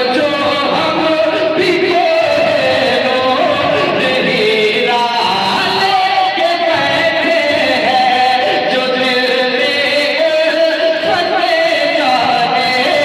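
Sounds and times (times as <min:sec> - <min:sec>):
man singing devotional verse: 0:00.0 - 0:13.0.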